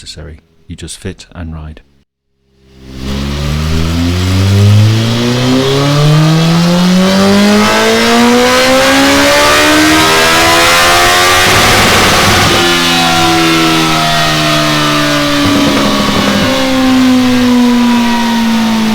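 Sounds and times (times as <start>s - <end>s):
motorcycle exhaust revving: 2.5s - 18.9s.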